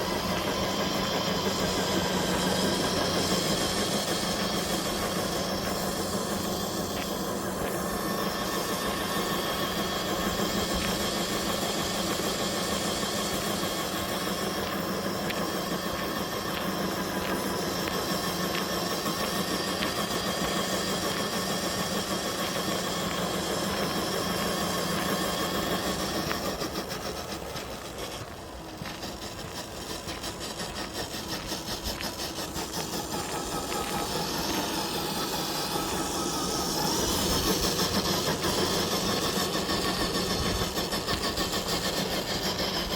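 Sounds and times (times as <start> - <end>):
electric motor and gearbox whining: 0.0 - 42.9.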